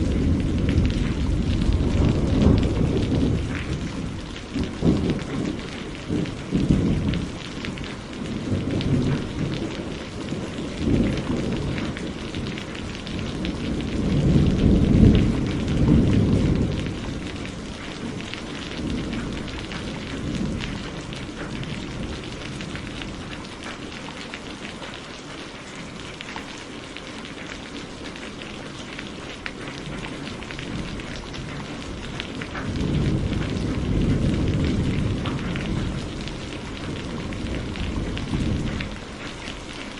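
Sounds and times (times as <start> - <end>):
thunder rumbling: 0.0 - 24.3, 25.9 - 39.9
heavy rain falling: 0.0 - 39.9.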